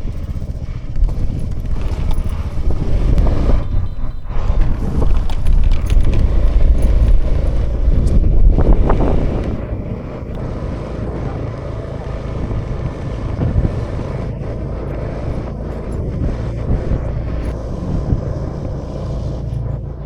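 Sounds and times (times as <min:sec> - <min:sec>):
road and wind noise: 0:00.0 - 0:20.0
scooter engine running: 0:00.0 - 0:20.0.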